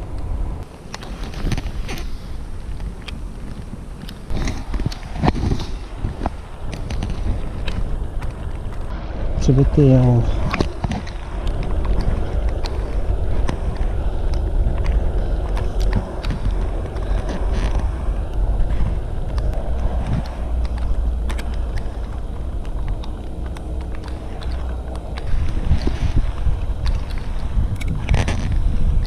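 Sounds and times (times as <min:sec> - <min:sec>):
steady low rumble: 0:00.0 - 0:29.0
wind buffeting microphone: 0:00.0 - 0:29.0.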